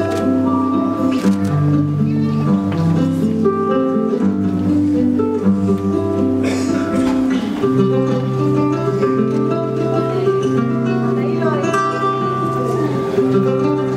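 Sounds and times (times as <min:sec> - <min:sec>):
acoustic flamenco guitar: 0:00.0 - 0:13.9.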